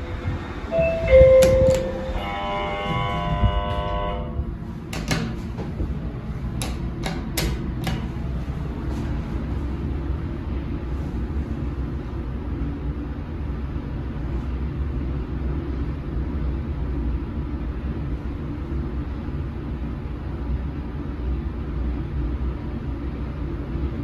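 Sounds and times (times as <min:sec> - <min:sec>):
elevator low rumble: 0:00.0 - 0:24.0.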